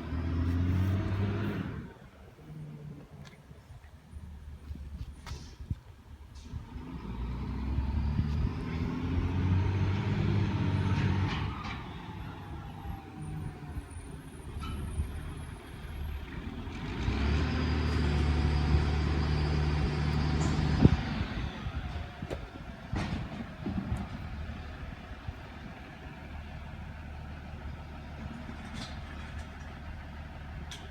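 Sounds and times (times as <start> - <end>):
vehicles driving past: 0.0 - 3.3, 6.2 - 30.9.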